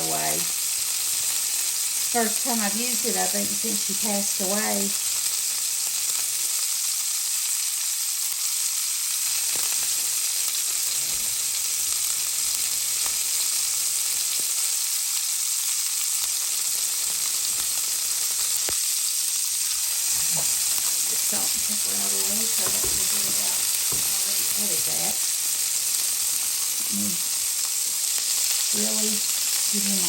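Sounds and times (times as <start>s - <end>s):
steaks sizzling in a skillet: 0.0s - 30.0s.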